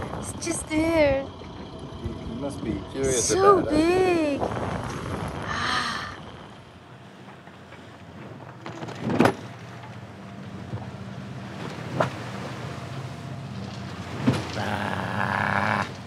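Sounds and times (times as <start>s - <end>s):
boat engine hum: 0.0s - 16.0s
water noise: 0.0s - 16.0s
wind: 0.0s - 16.0s.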